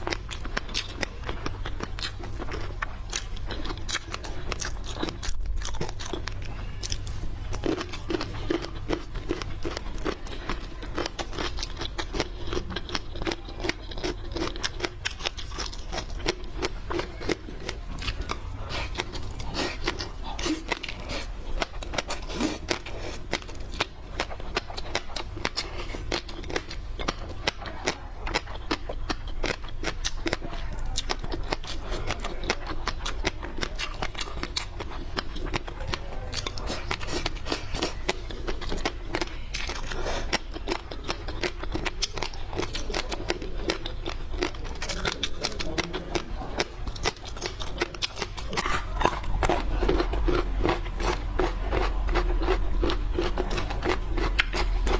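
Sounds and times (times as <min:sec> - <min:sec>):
crunching and wet chewing: 0:00.0 - 0:54.9.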